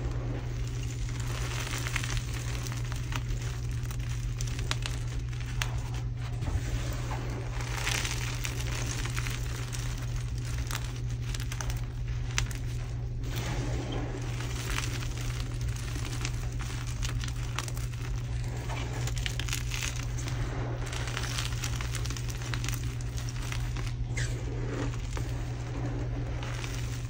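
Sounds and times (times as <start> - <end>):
chalk crunching by hand: 0.0 - 27.0.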